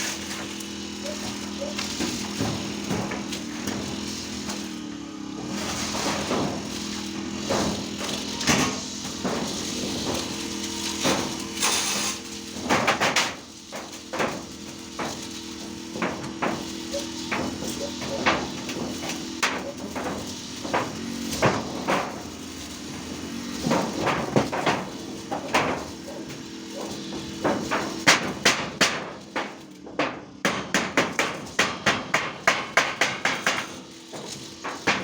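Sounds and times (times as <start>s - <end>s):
sharp knocks and clanks: 0.0s - 35.0s.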